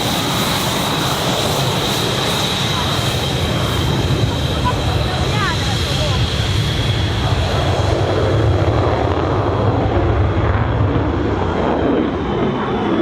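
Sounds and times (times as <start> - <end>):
jet engines roaring with whine: 0.0 - 13.0.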